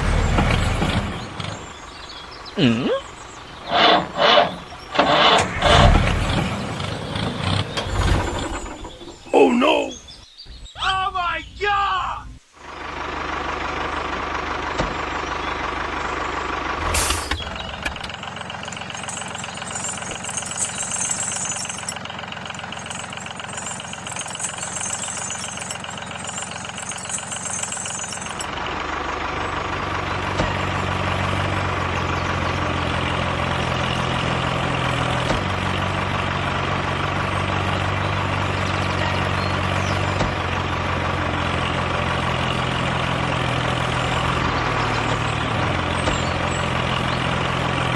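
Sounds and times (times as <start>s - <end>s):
small construction machine engine running: 0.0s - 9.4s, 12.6s - 47.9s.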